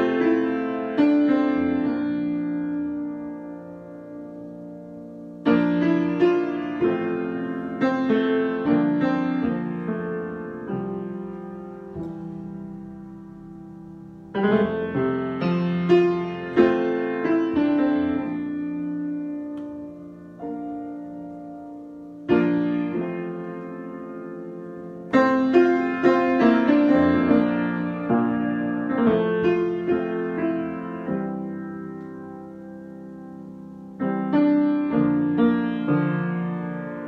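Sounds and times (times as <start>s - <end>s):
solo grand piano: 0.0s - 37.0s.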